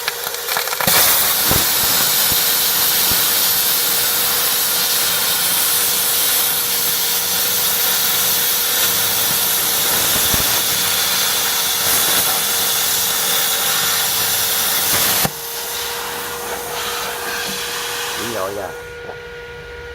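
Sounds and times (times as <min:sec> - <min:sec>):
plasma cutter torch hissing: 0:00.3 - 0:18.8.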